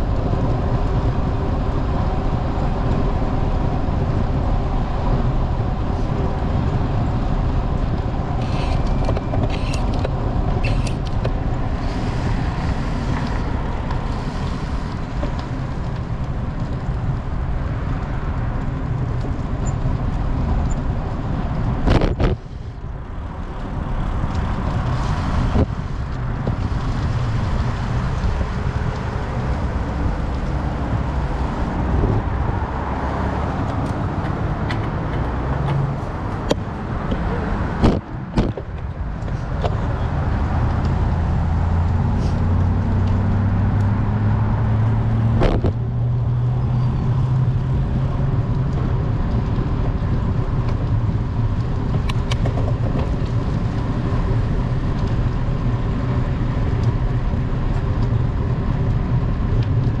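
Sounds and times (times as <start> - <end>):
cars passing: 0.0 - 60.0.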